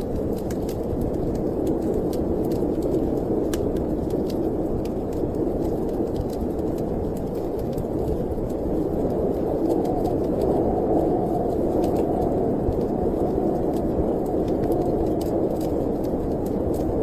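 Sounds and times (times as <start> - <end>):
storm wind blowing: 0.0 - 17.0
wood fire crackling and popping: 0.0 - 17.0.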